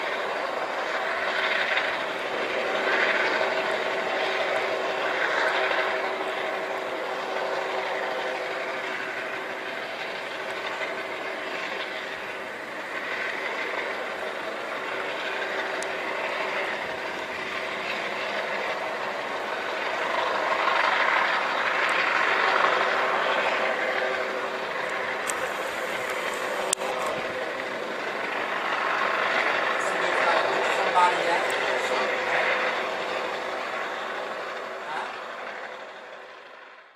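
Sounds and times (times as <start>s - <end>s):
helicopter flying: 0.0s - 36.9s.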